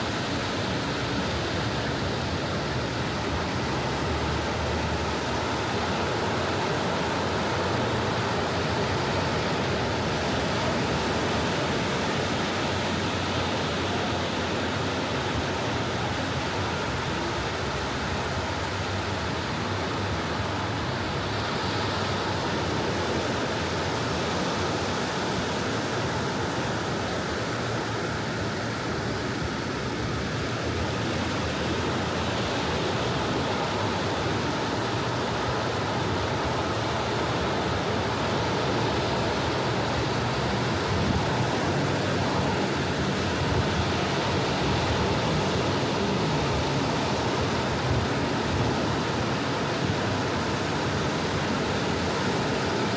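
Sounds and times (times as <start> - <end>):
small waves washing on beach: 0.0 - 52.9.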